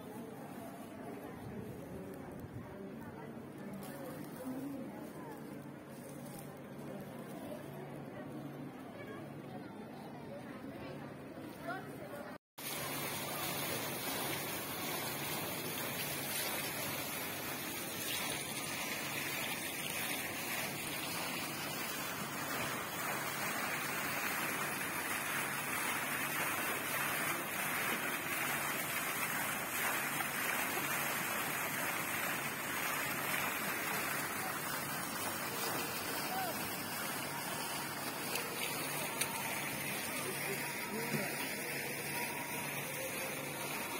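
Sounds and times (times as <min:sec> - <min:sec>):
fountain water splashing: 0:00.0 - 0:08.0, 0:12.6 - 0:43.9.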